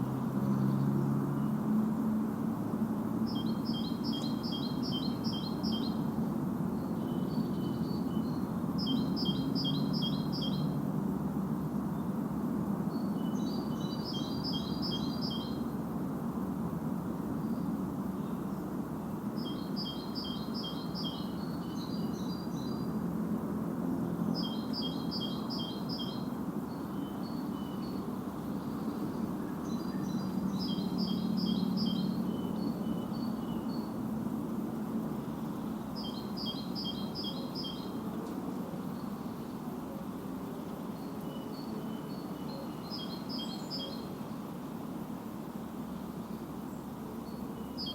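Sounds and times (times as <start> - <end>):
songbird singing: 0.0 - 1.7, 3.1 - 11.0, 12.8 - 15.8, 17.3 - 23.1, 24.0 - 47.9
low rushing background noise: 0.0 - 47.9.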